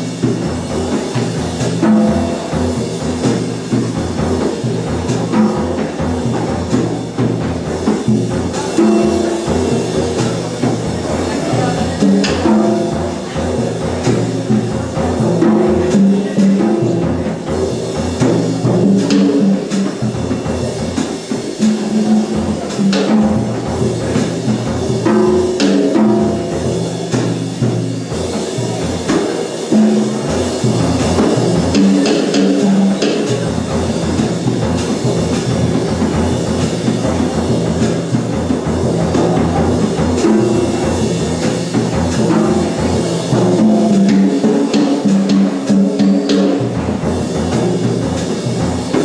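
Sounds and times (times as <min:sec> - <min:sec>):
fast drumming on pitched drums: 0:00.0 - 0:49.0.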